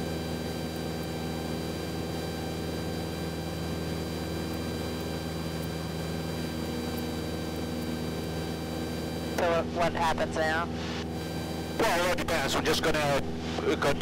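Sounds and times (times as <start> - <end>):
propeller plane engine drone: 0.0 - 14.0.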